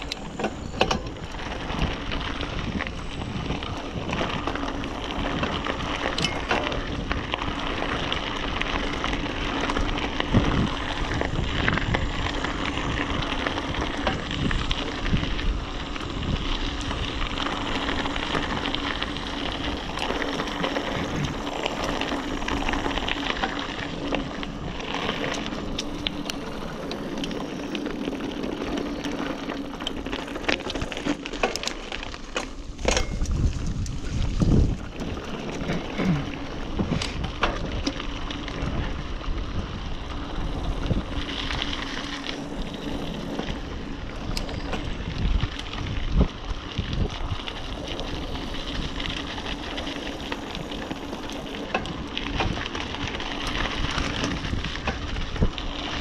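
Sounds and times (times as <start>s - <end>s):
bike clicks and rattles: 0.0s - 56.0s
bike tyres on dirt and gravel: 0.0s - 56.0s.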